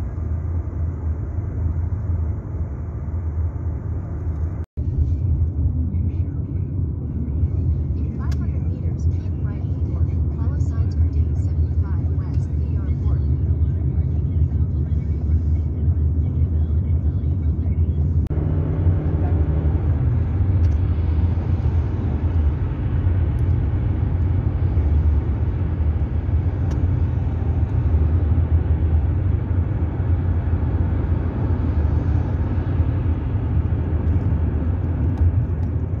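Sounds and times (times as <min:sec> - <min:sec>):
car engine hum: 0:00.0 - 0:36.0
tyre and road noise: 0:00.0 - 0:36.0.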